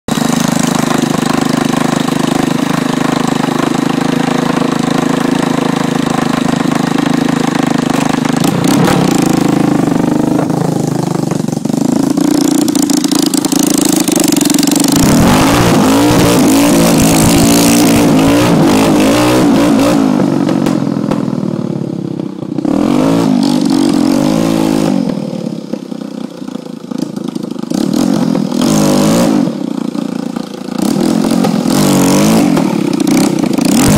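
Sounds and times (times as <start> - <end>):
quad engine idling and revving: 0.1 - 33.9.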